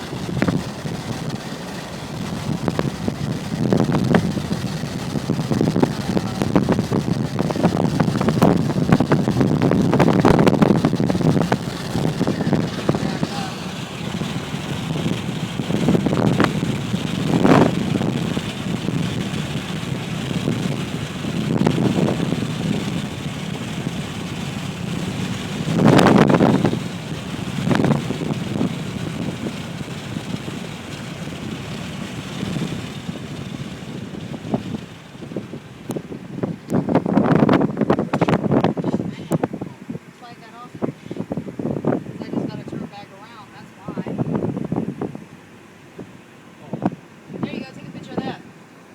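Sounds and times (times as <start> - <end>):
road and engine noise: 0.0 - 48.9
wind buffeting microphone: 0.0 - 48.9.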